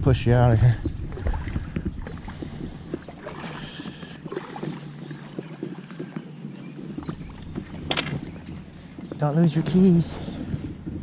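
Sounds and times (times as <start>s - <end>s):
boat hull knocking and scraping: 0.0s - 11.0s
gear moving inside boat: 0.0s - 11.0s.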